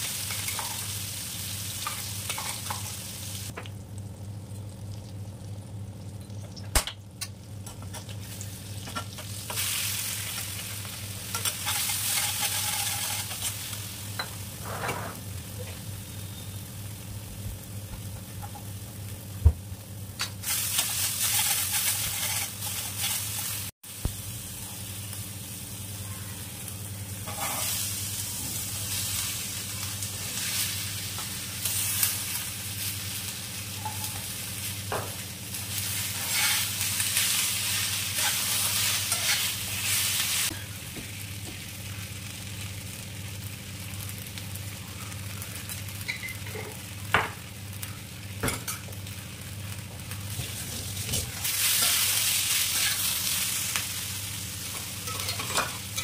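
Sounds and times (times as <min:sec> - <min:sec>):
vegetables sizzling in frying pan: 0:00.0 - 0:56.0.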